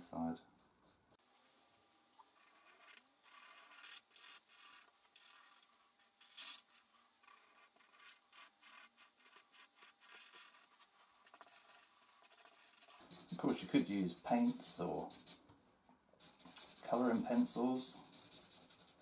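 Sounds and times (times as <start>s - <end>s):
pen scratching on paper: 2.4s - 15.5s, 16.2s - 19.0s.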